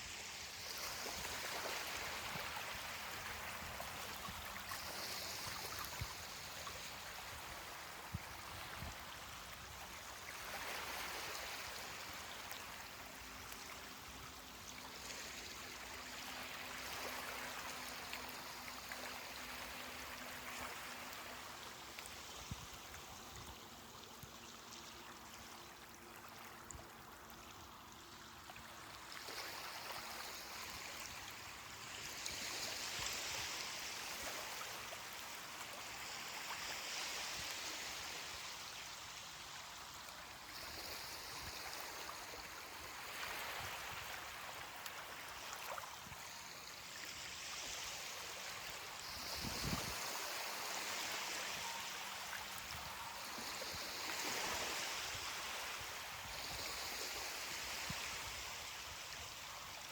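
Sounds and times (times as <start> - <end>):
ocean waves washing on beach: 0.0 - 59.9.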